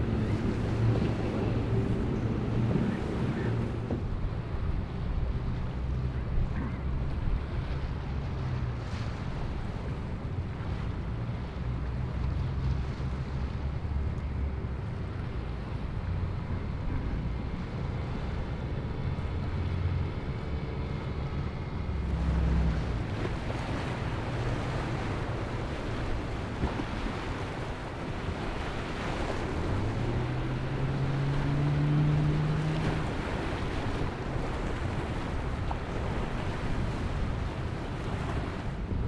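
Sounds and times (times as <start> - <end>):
boat engines running: 0.0 - 39.0
waves splashing: 0.0 - 39.0.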